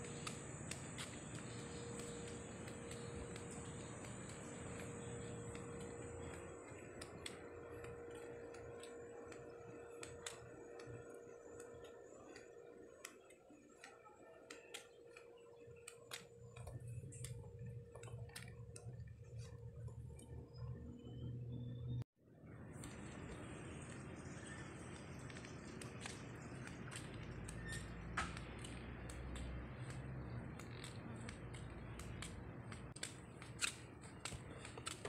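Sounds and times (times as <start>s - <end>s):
faint clicks and ticks: 0.0s - 35.0s
steady low hum: 0.0s - 35.0s.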